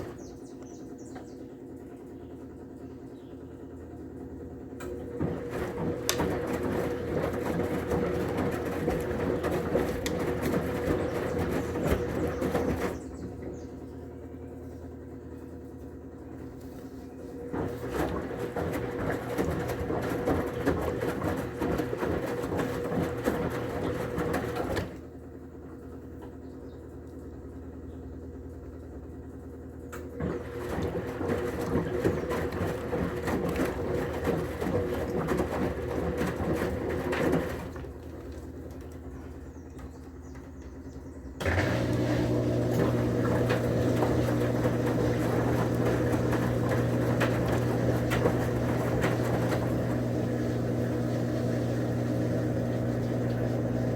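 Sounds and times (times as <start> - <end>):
washing machine motor hum: 0.0 - 53.9
washing machine running: 0.0 - 53.9.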